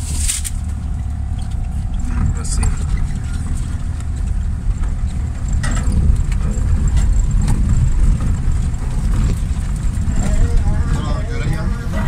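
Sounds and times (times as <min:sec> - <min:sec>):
car engine and road rumble: 0:00.0 - 0:12.0
knocks and rattles: 0:00.0 - 0:12.0.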